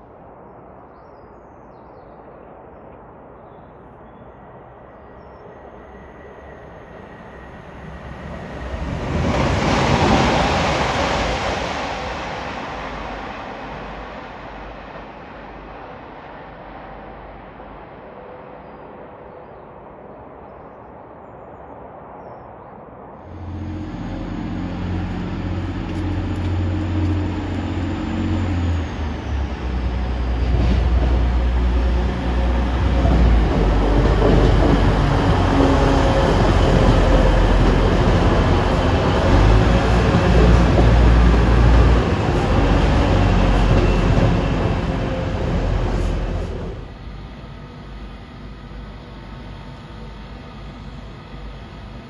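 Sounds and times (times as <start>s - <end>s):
train diesel engine rumble: 3.8s - 19.7s, 23.2s - 52.0s.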